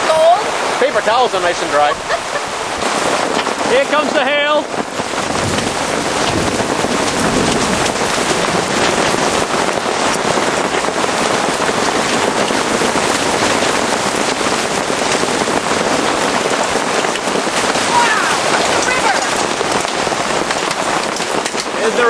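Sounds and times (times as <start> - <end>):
hail and heavy rain: 0.0 - 22.0.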